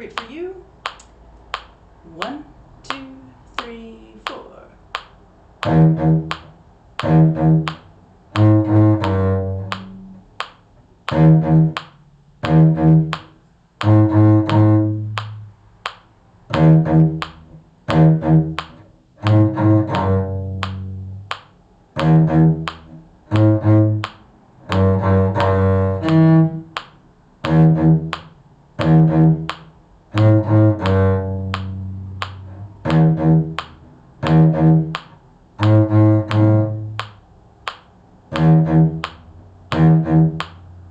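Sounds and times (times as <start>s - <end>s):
low string instrument notes: 0.0s - 40.9s.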